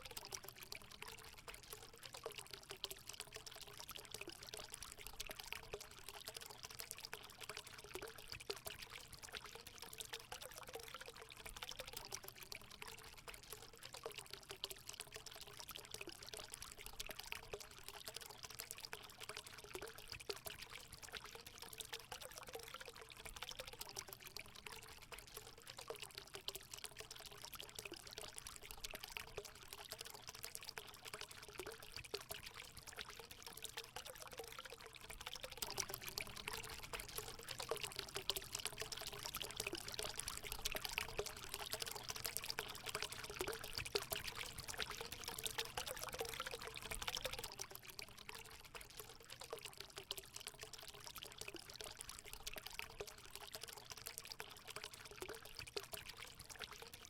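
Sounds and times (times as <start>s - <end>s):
water pouring into a pool: 0.0s - 57.0s.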